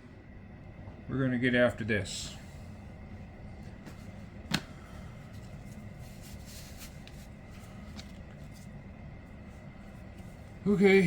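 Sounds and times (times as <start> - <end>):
steady low background hum: 0.0 - 11.0.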